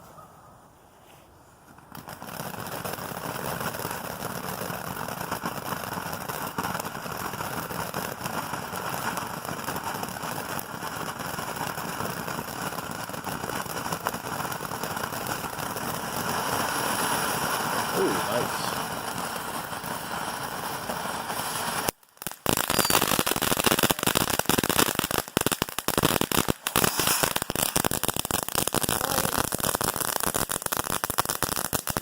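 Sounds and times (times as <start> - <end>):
fountain firework hissing and crackling: 1.9 - 32.0.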